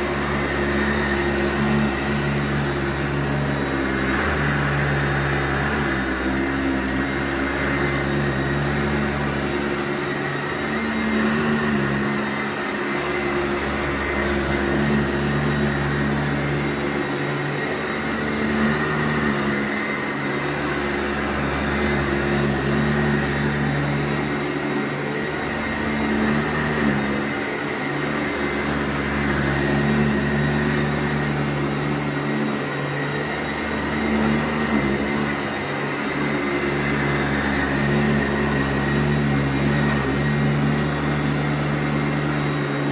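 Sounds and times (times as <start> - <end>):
vacuum cleaner on carpet: 0.0 - 42.9.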